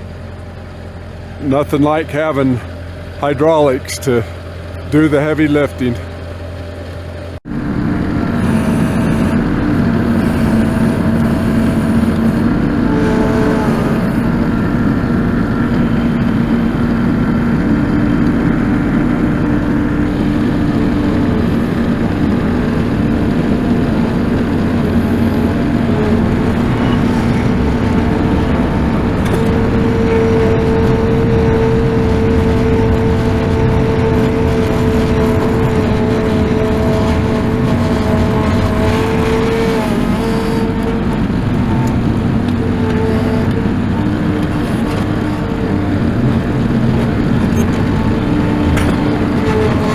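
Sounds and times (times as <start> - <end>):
hydraulics steady tone: 0.0 - 49.9
tractor engine running: 0.0 - 49.9.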